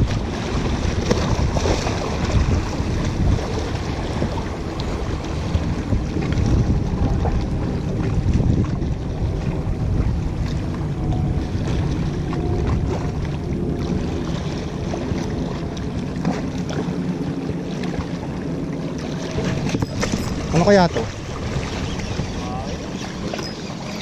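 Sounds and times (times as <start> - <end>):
sea water washing on rocks: 0.0 - 24.0
wind buffeting microphone: 0.0 - 24.0.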